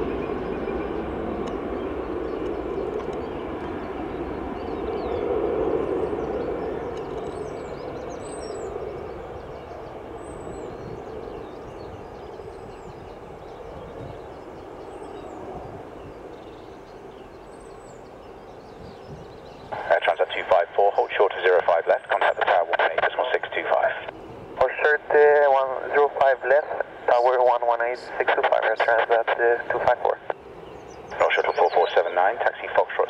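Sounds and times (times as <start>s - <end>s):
bird chirping: 0.0s - 23.4s, 28.4s - 33.0s
jet airliner engines running: 0.0s - 33.0s.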